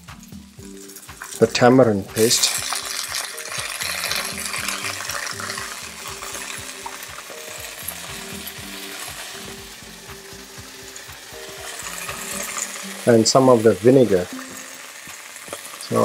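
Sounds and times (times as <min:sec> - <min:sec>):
vegetables sizzling in a frying pan: 0:00.1 - 0:16.0.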